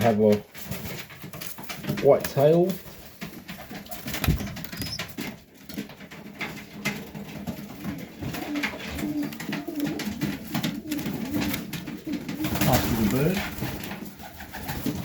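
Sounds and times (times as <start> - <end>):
pigeons cooing: 1.8 - 15.0.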